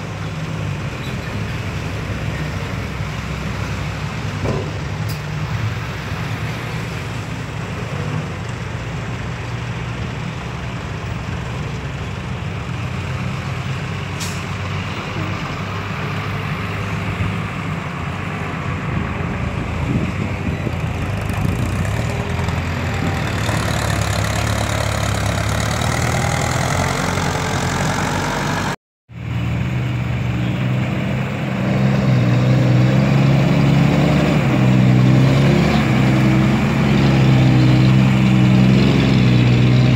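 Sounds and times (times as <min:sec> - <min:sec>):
closer truck engine: 0:00.0 - 0:39.9
diesel truck engines running: 0:00.0 - 0:39.9.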